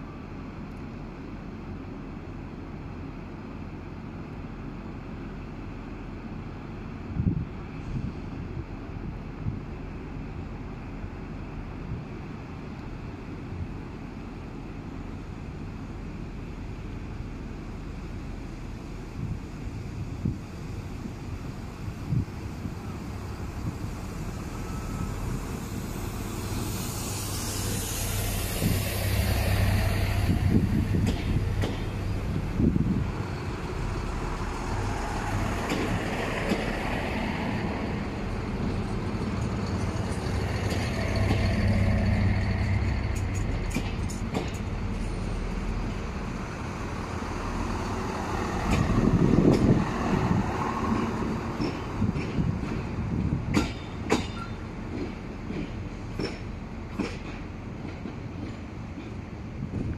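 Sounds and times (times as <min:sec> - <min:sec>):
train diesel engines running: 0:00.0 - 0:59.9.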